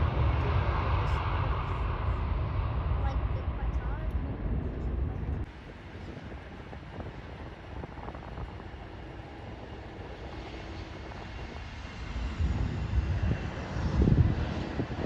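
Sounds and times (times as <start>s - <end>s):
distant airliner engines rumbling: 0.0s - 15.0s
wind buffeting microphone: 0.0s - 15.0s.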